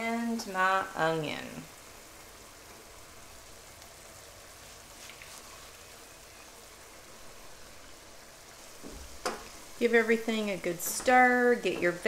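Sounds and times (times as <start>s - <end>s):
food simmering with soft sizzle: 0.0s - 12.0s.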